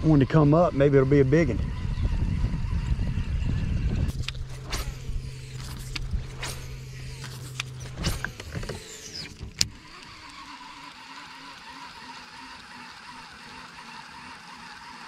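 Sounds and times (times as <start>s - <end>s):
electric trolling motor hum: 0.0s - 15.0s
fishing reel whirring: 0.0s - 15.0s.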